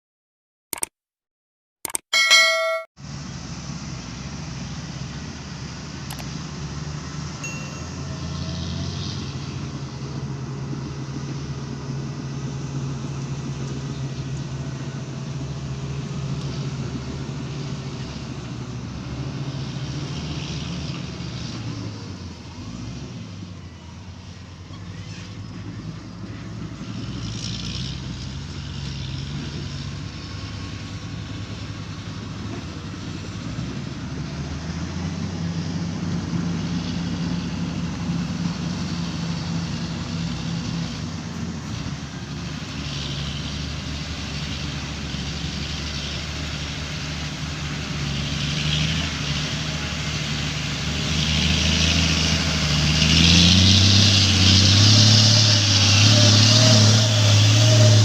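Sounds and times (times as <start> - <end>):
diesel truck engine revving: 3.0 - 58.0.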